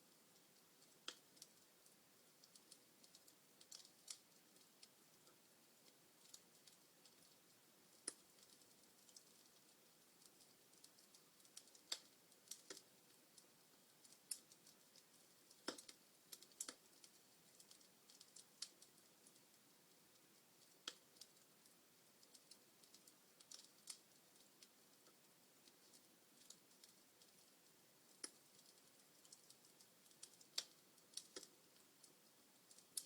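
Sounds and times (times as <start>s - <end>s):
faint hiss: 0.0s - 33.0s
wood fire crackling: 0.0s - 33.0s.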